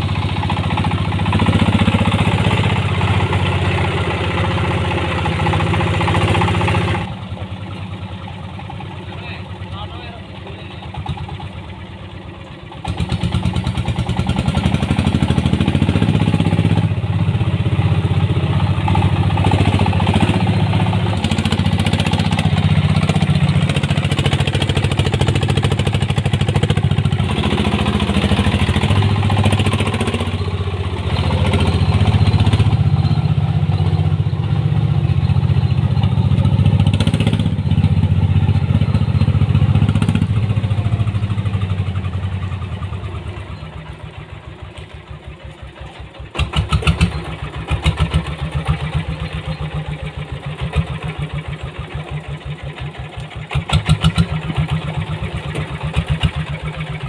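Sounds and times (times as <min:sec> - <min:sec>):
diesel engine chugging under load: 0:00.0 - 0:57.0.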